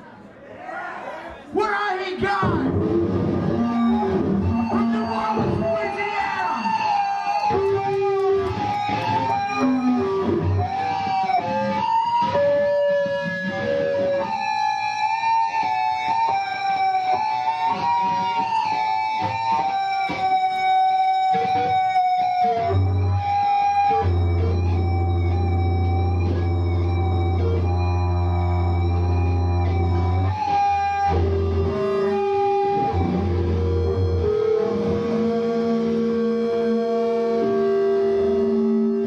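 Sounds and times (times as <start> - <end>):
heavy low riff: 2.6 - 6.7, 7.5 - 39.0
electric guitars sustained notes: 2.6 - 39.0.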